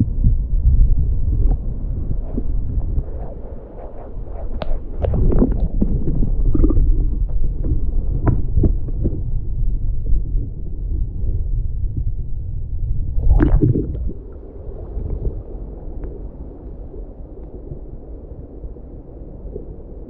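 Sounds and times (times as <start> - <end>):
wind and handling rumble: 0.0 - 20.0.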